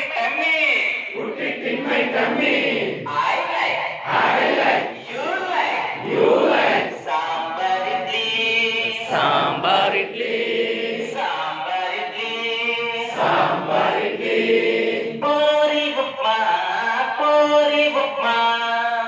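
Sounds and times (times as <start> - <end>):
adults chanting in unison: 1.1 - 18.2.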